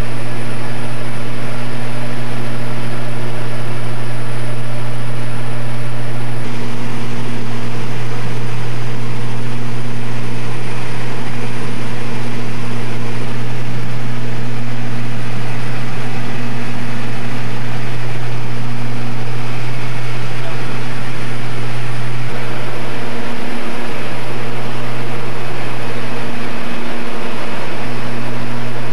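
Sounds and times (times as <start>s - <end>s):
propeller engine drone: 0.0s - 28.9s.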